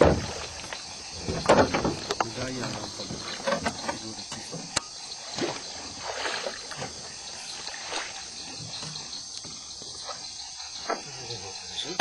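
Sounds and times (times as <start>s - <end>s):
water sloshing and splashing: 0.0s - 11.1s.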